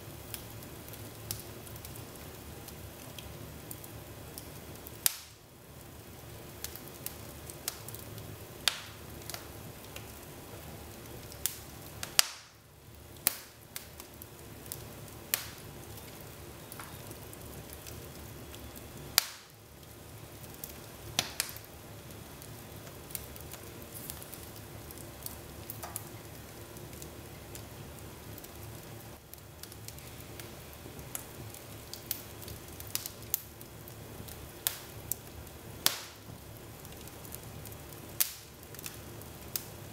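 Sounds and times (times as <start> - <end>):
wood fire crackling: 0.0 - 39.9
sharp pops from fire: 0.2 - 5.4, 6.6 - 8.0, 8.6 - 10.3, 11.0 - 27.6, 29.3 - 33.6, 34.2 - 39.8.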